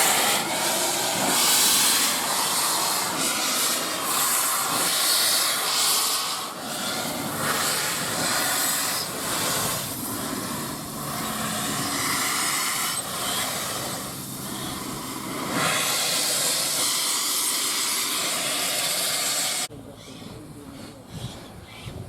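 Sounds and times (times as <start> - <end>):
steam locomotive hissing: 0.0 - 21.7.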